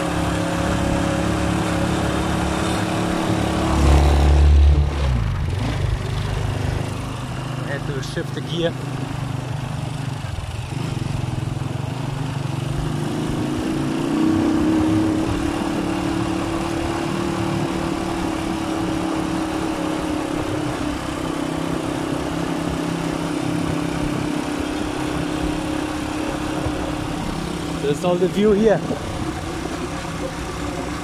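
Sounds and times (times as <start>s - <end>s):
motorcycle engine on gravel road: 0.0s - 31.0s.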